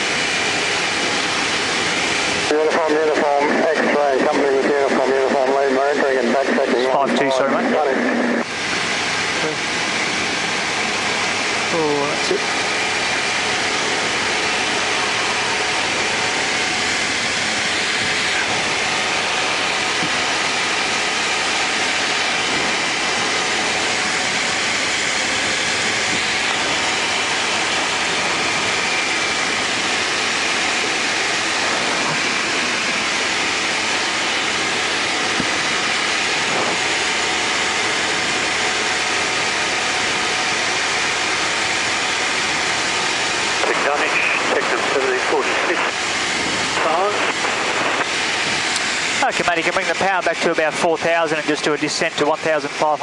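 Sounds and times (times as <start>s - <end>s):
light aircraft engine drone: 0.0s - 53.0s.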